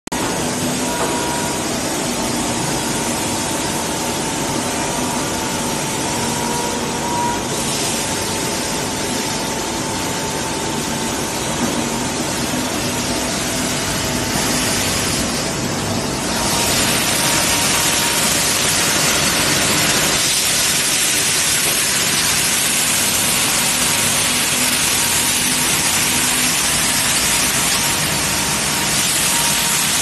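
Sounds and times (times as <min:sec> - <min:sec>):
machine hum: 0:00.1 - 0:30.0
sanding machine whirring hiss: 0:00.2 - 0:30.0.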